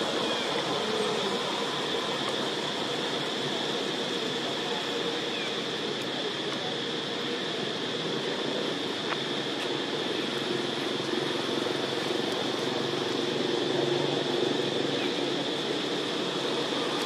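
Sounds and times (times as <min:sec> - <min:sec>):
steady background drone with hiss: 0:00.0 - 0:17.0.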